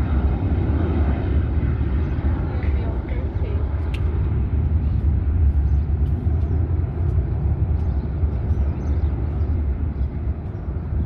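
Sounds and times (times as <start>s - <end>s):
jet airliner rumble: 0.0s - 11.0s.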